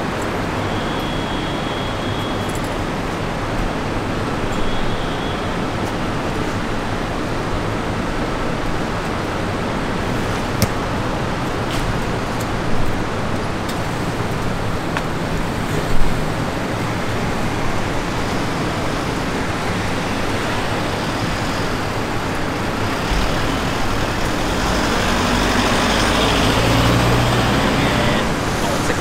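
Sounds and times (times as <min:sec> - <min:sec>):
heavy vehicle engine rumble: 0:00.0 - 0:29.0
hiss of passing vehicles: 0:00.0 - 0:29.0.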